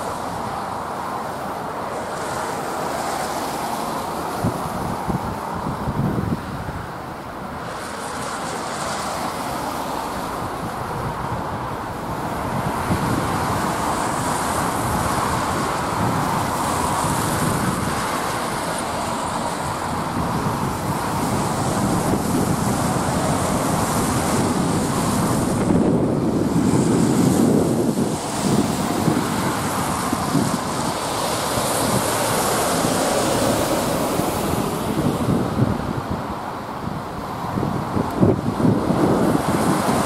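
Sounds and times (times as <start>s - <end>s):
cars passing on wet road: 0.0s - 40.0s.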